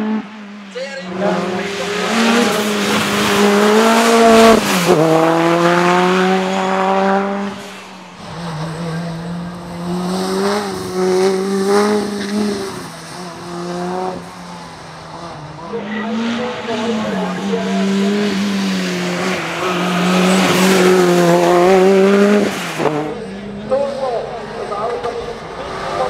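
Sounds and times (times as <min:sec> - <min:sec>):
race car engine accelerating: 0:00.0 - 0:26.0.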